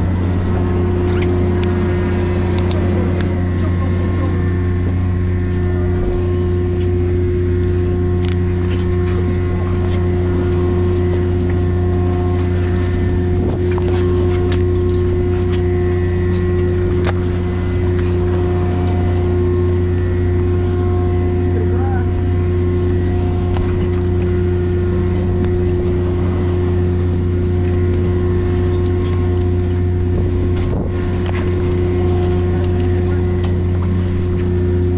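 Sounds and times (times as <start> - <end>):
boat engine humming: 0.0 - 34.9.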